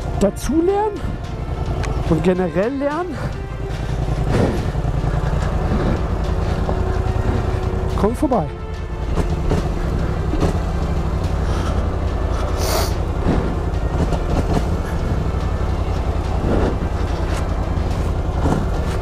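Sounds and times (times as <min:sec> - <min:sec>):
quad bike engine at low revs: 0:00.0 - 0:08.4, 0:09.1 - 0:19.0.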